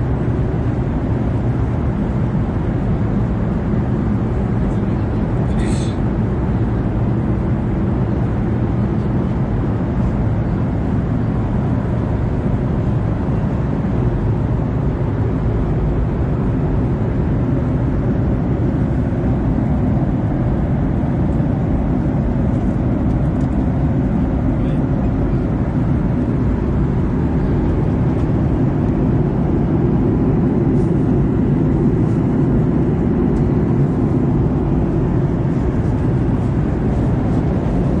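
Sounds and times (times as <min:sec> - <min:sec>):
airliner cabin roar: 0:00.0 - 0:38.0.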